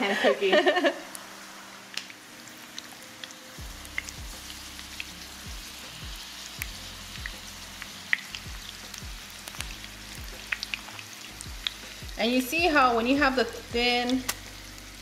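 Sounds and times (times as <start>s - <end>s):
tacos frying in hot oil: 0.1s - 15.0s
oil popping and crackling: 1.9s - 15.0s.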